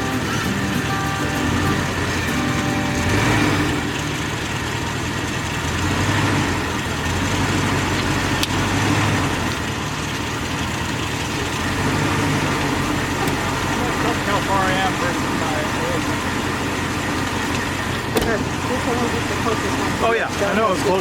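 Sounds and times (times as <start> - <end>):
van engine running: 0.0 - 21.0.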